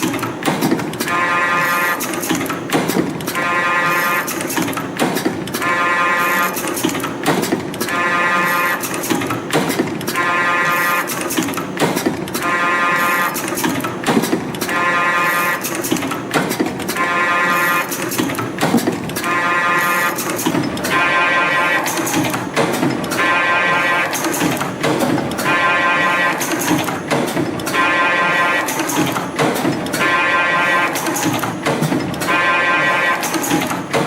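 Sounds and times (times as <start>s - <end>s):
machine clicking and rattling: 0.0s - 30.2s, 30.8s - 34.0s.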